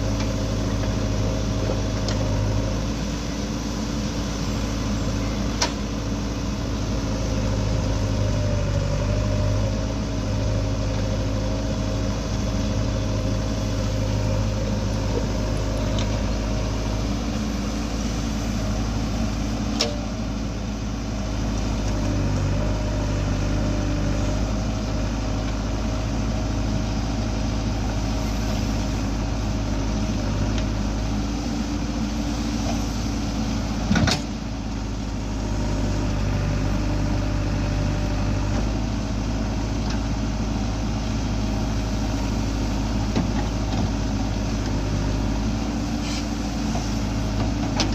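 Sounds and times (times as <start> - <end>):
diesel engine running steadily: 0.0 - 47.9.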